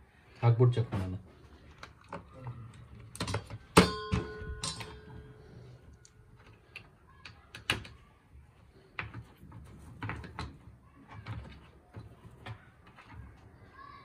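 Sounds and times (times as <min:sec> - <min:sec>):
clicks and knocks of parts: 0:01.5 - 0:08.1, 0:08.7 - 0:13.5.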